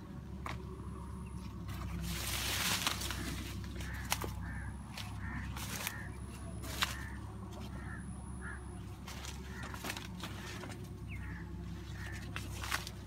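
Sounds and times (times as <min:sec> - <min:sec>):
steady low rumble: 0:00.0 - 0:13.0
maize leaves crackling: 0:01.2 - 0:13.0.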